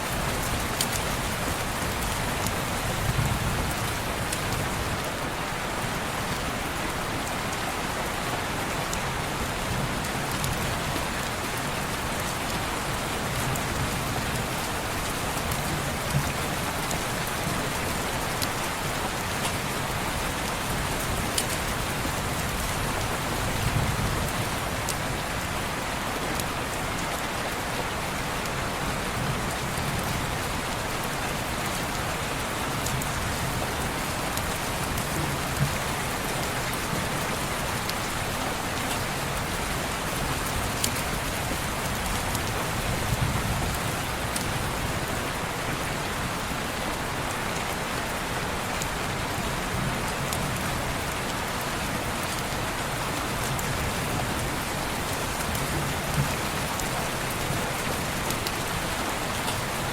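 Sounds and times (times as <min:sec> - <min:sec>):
heavy rain on window glass: 0:00.0 - 0:59.9.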